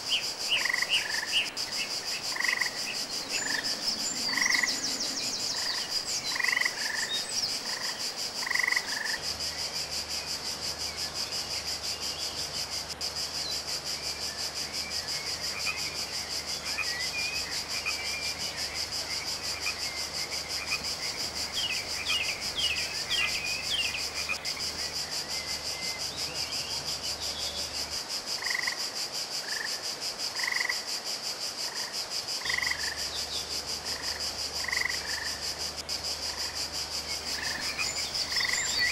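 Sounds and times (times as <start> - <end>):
frogs croaking: 0.0 - 38.9
insects chirring: 0.0 - 38.9.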